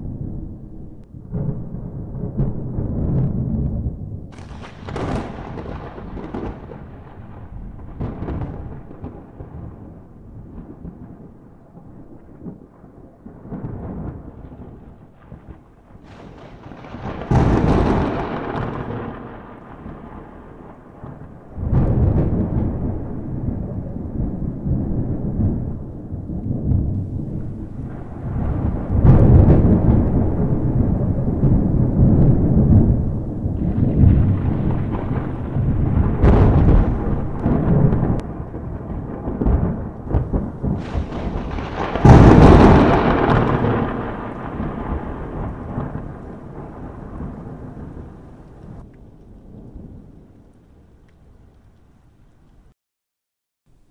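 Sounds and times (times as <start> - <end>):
thunder claps and rumble: 0.0 - 51.9.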